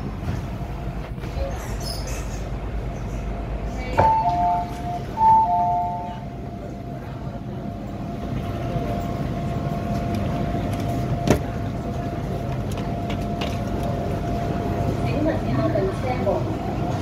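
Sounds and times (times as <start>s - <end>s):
low rumble of train and station: 0.0s - 17.0s.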